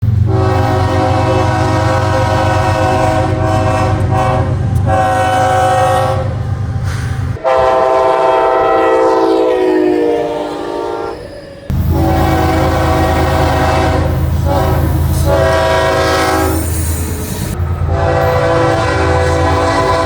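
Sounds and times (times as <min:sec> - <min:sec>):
locomotive air horns: 0:00.1 - 0:20.0.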